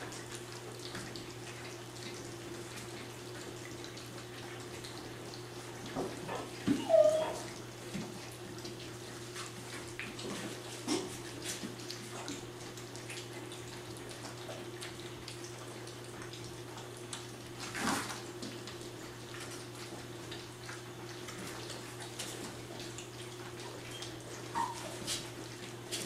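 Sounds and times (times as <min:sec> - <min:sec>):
puppies lapping and slurping: 0:00.0 - 0:26.0.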